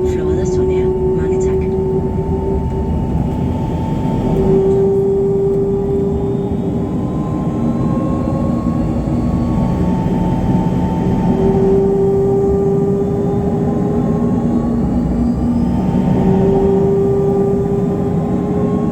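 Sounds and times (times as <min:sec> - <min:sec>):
jet engines running in cabin: 0:00.0 - 0:18.9.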